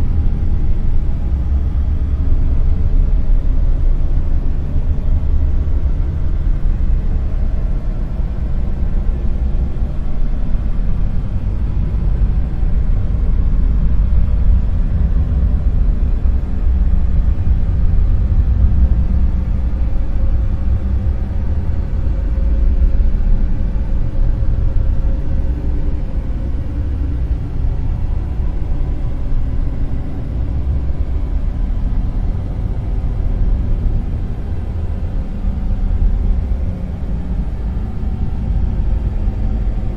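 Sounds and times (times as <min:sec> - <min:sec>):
deep low noise: 0:00.0 - 0:39.9.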